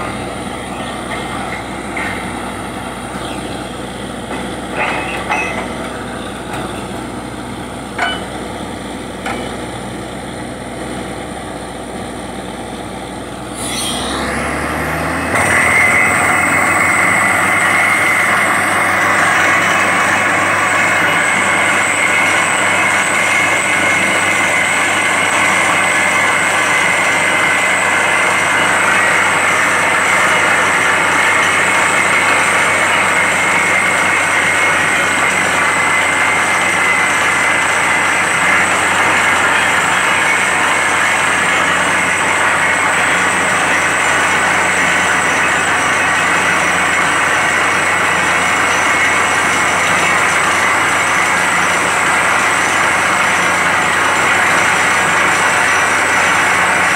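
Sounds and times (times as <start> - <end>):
drilling rig drilling: 0.0 - 56.9.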